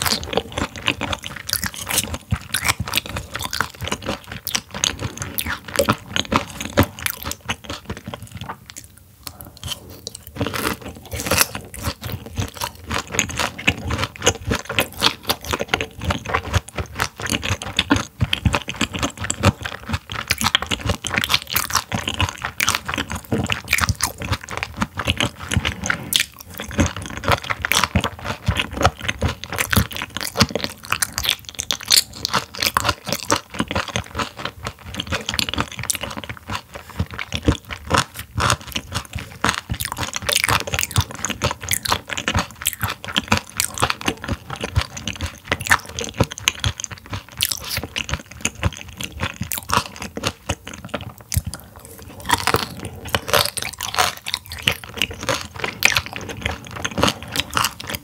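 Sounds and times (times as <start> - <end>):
wet chewing and crunching: 0.0 - 58.0.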